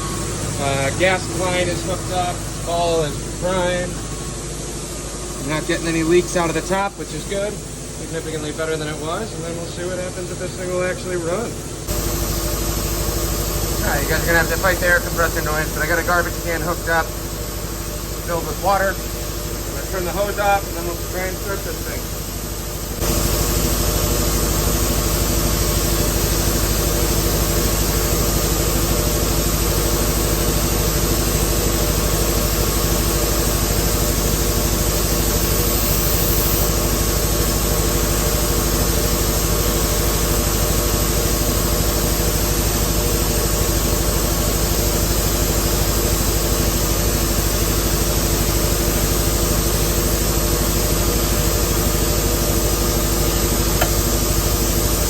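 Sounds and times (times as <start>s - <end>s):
outboard motor running: 5.5s - 55.0s.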